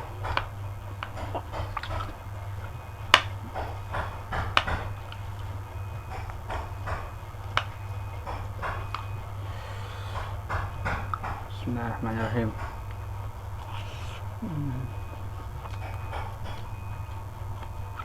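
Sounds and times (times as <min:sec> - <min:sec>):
chewing crispy crackers: 0:00.0 - 0:18.0
low hum: 0:00.0 - 0:18.0.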